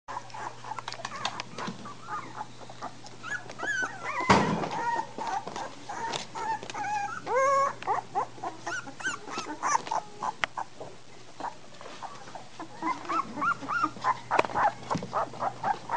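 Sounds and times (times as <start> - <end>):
puppies crying: 0.1 - 10.8, 11.4 - 15.9.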